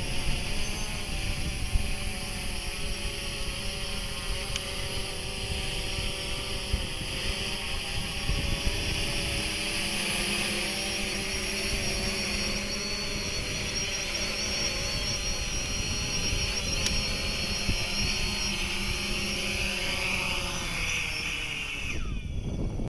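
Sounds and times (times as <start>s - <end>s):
drone propellers whirring: 0.0s - 22.9s.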